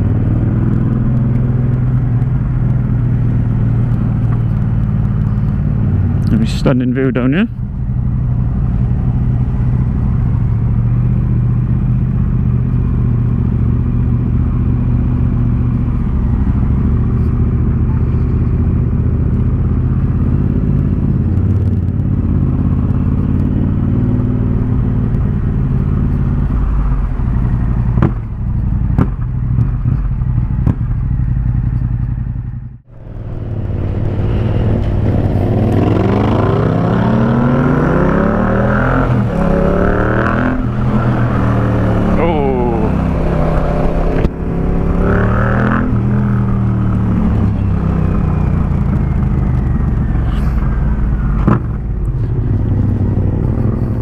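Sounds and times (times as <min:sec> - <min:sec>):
exhaust cracks: 0:00.0 - 0:37.8, 0:38.6 - 0:54.0
motorcycle engine revving: 0:00.0 - 0:54.0.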